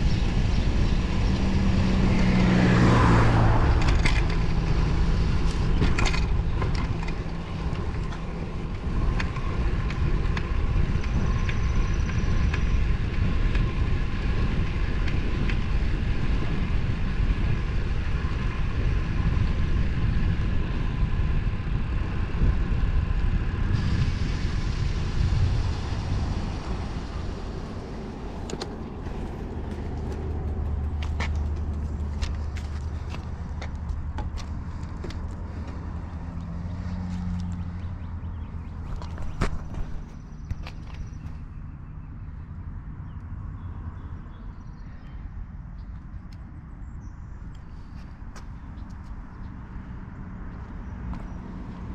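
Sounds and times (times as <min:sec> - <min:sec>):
low drone: 0:00.0 - 0:45.3
wind rushing over microphone: 0:00.0 - 0:51.9.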